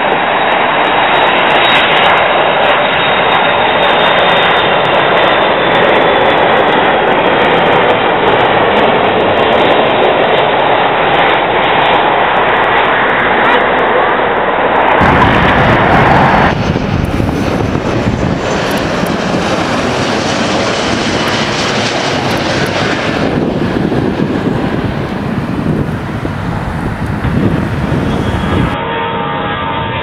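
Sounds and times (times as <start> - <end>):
airliner jet engines rushing: 0.0 - 30.0.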